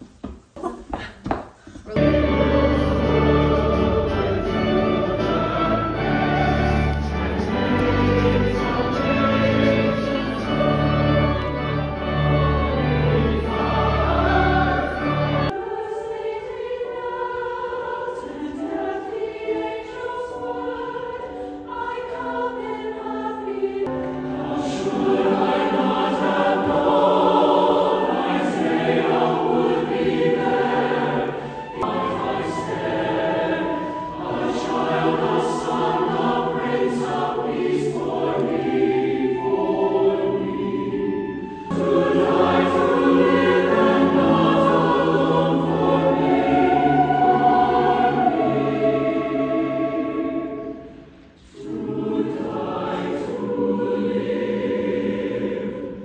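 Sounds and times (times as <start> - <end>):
choir singing in parts: 2.0 - 56.0.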